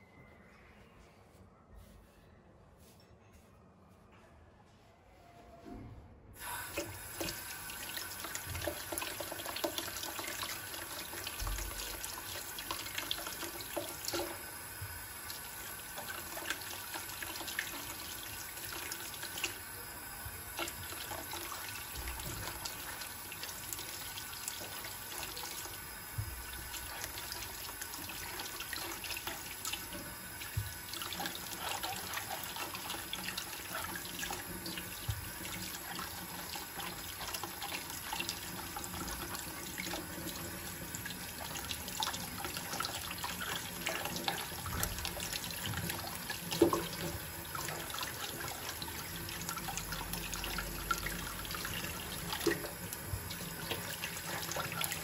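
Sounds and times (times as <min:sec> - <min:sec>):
tap water running into sink: 0:06.4 - 0:55.0.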